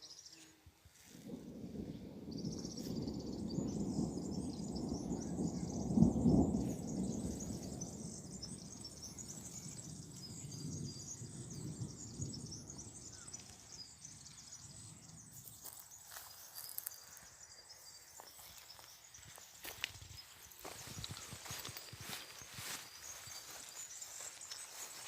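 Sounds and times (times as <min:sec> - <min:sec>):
small birds chirping: 0:02.3 - 0:25.0.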